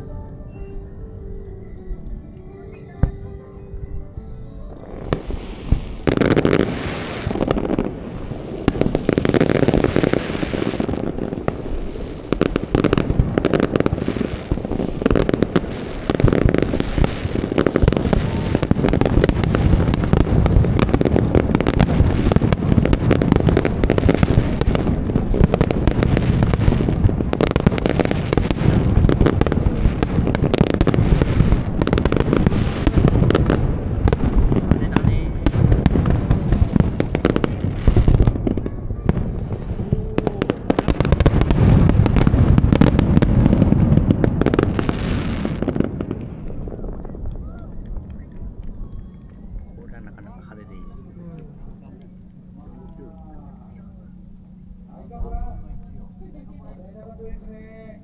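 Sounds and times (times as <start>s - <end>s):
fireworks bursting and crackling: 4.7s - 58.0s.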